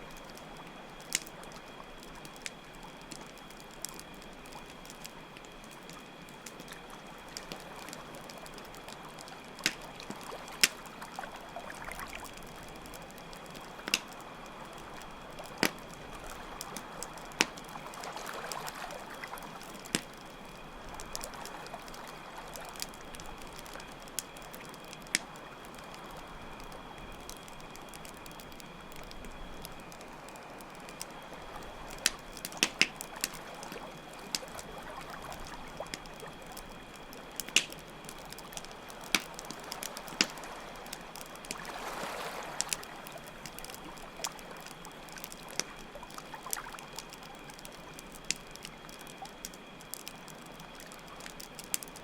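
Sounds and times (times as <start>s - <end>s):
campfire crackling and popping: 0.0s - 52.0s
crickets trilling: 0.0s - 52.0s.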